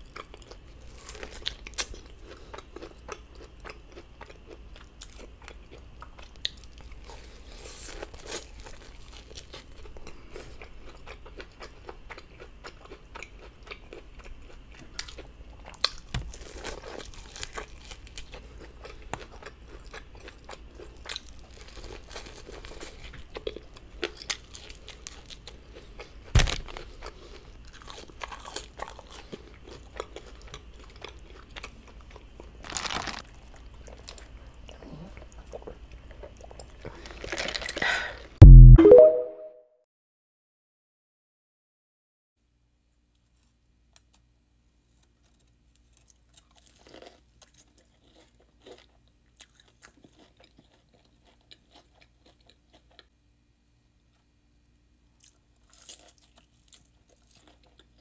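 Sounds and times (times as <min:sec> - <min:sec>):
chewing and crunching corn: 0:00.0 - 0:38.3, 0:43.1 - 0:53.2, 0:55.0 - 0:58.0.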